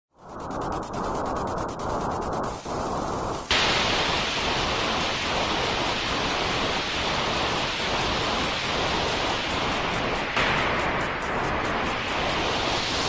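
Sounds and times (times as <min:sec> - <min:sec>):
steady white noise hiss: 0:00.2 - 0:13.0.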